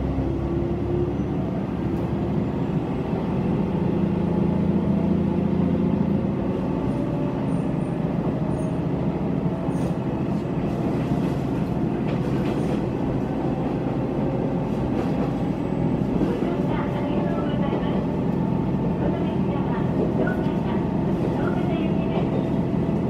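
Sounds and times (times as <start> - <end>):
diesel railcar engine accelerating: 0.0 - 23.0.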